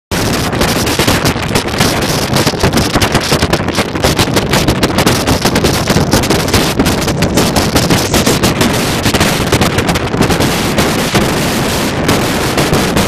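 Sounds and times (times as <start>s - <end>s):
strong wind buffeting microphone: 0.1s - 13.0s.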